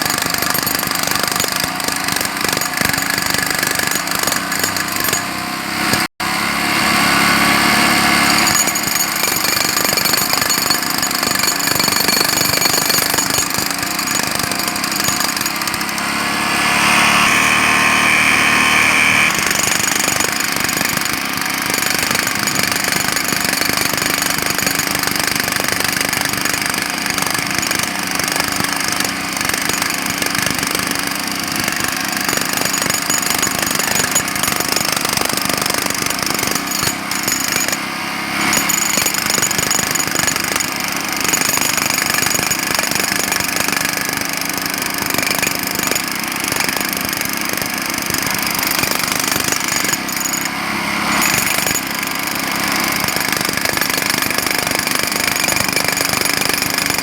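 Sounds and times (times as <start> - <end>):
jackhammer hammering: 0.0 - 57.0.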